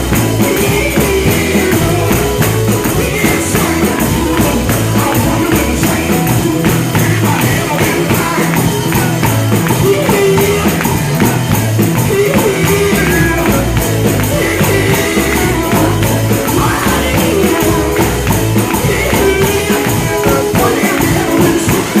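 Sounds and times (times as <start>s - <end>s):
gospel music: 0.0s - 22.0s
pulsing bass line: 0.0s - 22.0s
tambourine beat: 0.0s - 22.0s.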